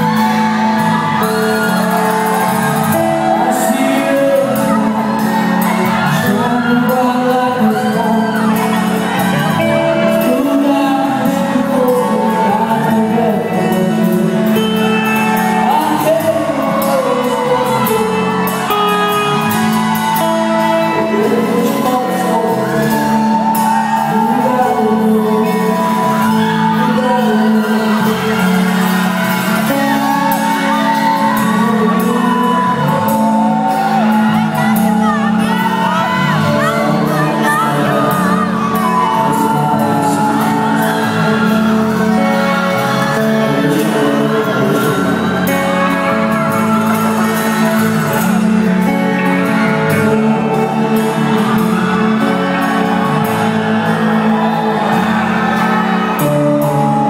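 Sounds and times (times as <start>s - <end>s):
live band playing: 0.0s - 57.0s
person singing: 0.0s - 57.0s.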